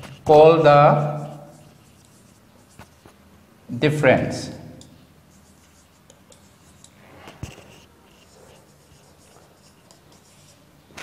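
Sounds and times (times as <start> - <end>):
marker scratching on whiteboard: 0.0 - 3.3, 4.8 - 11.0.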